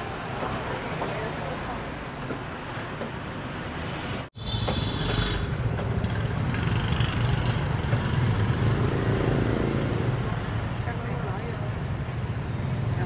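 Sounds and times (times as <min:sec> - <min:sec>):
street traffic rumbling: 0:00.0 - 0:13.0.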